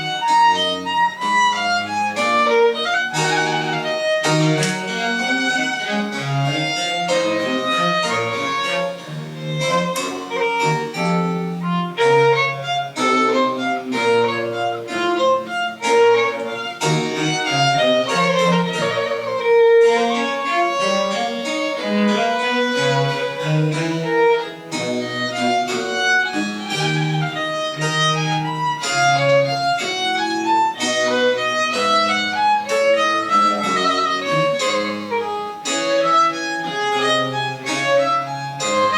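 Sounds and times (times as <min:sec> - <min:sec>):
violin melody: 0:00.0 - 0:38.9.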